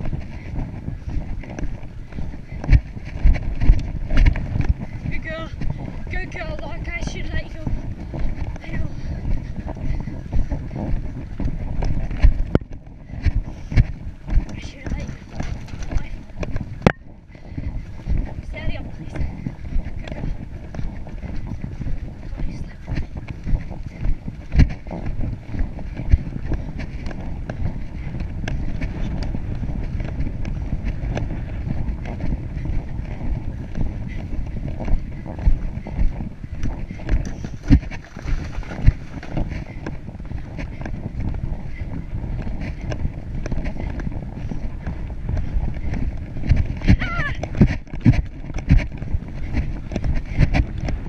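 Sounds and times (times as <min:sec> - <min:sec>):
horse hoofbeats on grass: 0:00.0 - 0:51.0
wind buffeting microphone: 0:00.0 - 0:51.0.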